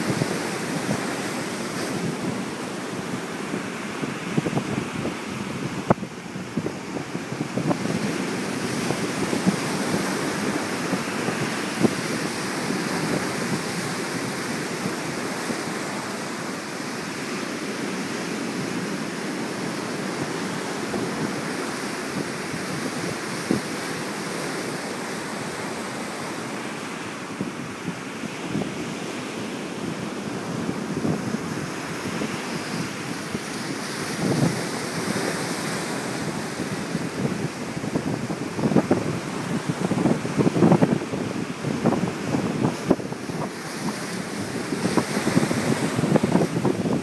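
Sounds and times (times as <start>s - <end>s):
surf washing over rocks: 0.0s - 47.0s
wind buffeting microphone: 0.0s - 47.0s.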